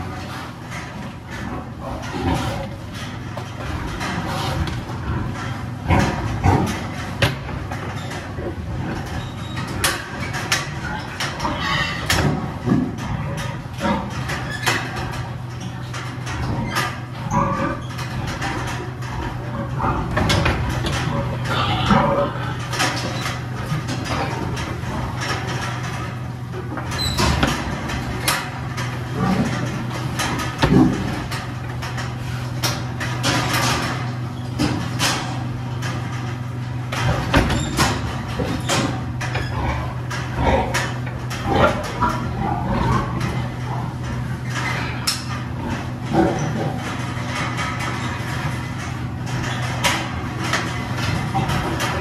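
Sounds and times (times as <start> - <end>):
metal crate bars clattering: 0.0 - 52.0
pigs grunting: 0.0 - 52.0
steady low hum: 0.0 - 52.0.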